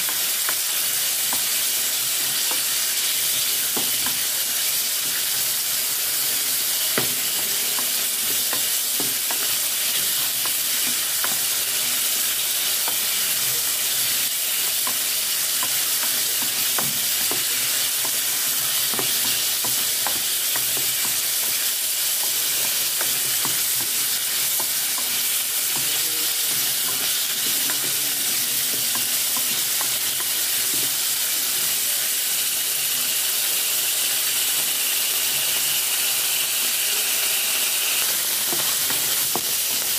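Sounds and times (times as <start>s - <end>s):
meat sizzling in a pot: 0.0s - 39.9s.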